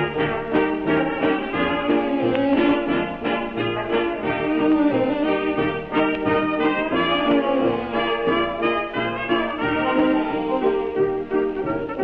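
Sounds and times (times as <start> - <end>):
orchestra playing old song: 0.0 - 12.0.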